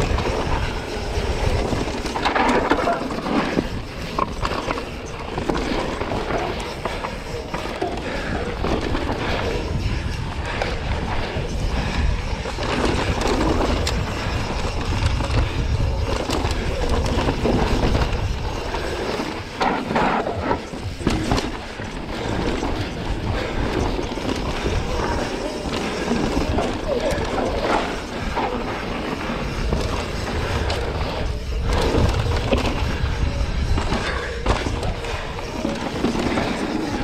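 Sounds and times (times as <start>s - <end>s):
wind on microphone: 0.0s - 28.6s, 29.3s - 37.0s
tyre rumble over dirt: 0.0s - 37.0s.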